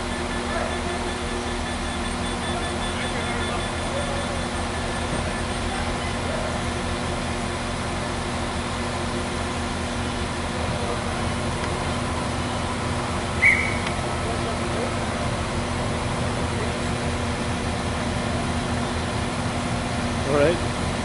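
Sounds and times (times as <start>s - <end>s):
diesel train engines idling: 0.0s - 21.0s.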